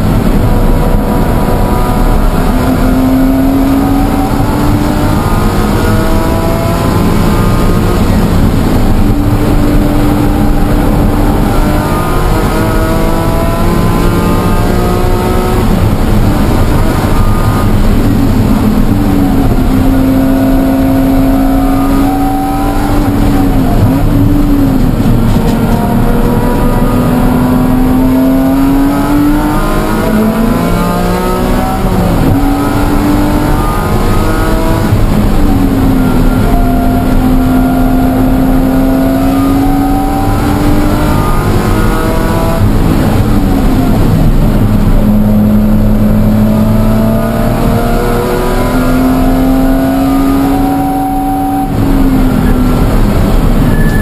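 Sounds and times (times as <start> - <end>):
car engine revving through gears: 0.0 - 54.0
road and wind noise: 0.0 - 54.0.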